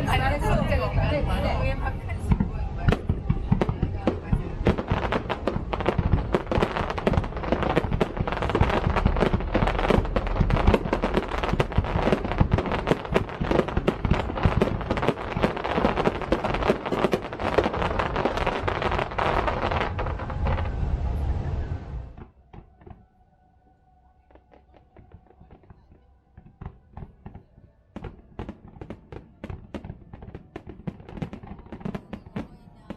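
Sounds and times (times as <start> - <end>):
fireworks crackling: 0.0 - 21.4, 24.3 - 32.9
fireworks booming: 0.0 - 23.0, 24.4 - 32.9.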